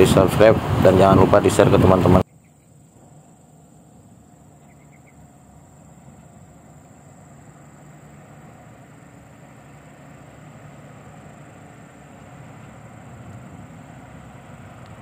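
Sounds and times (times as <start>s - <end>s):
distant truck diesel engine: 0.0s - 15.0s.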